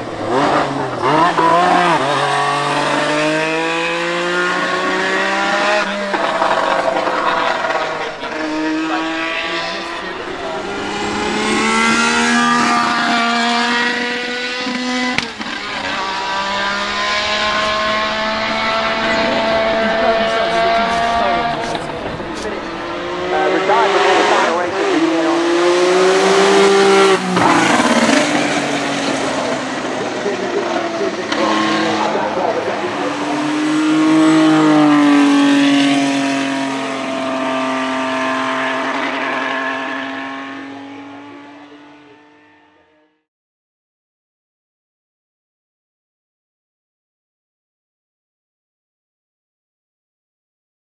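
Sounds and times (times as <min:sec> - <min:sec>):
race car engine at high revs: 0:00.0 - 0:43.3.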